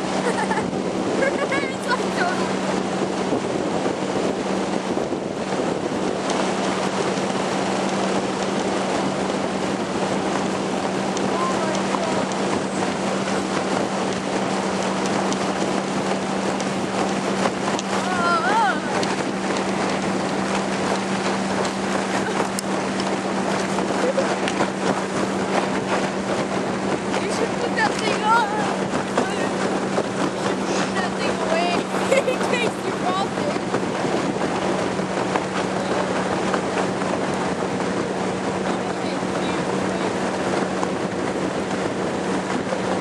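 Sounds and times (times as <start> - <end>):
hull slapping waves: 0.0 - 43.0
motorboat engine drone: 0.0 - 43.0
water rushing: 0.0 - 43.0
wind buffeting microphone: 0.0 - 43.0.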